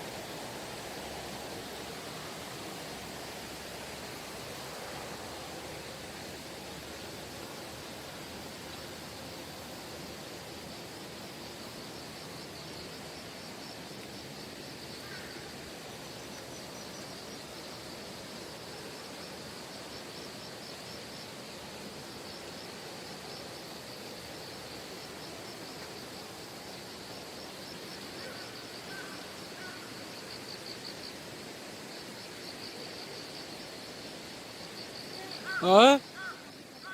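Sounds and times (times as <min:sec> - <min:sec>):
stream rushing: 0:00.0 - 0:16.3, 0:17.1 - 0:36.8
insects chirring: 0:00.0 - 0:36.9.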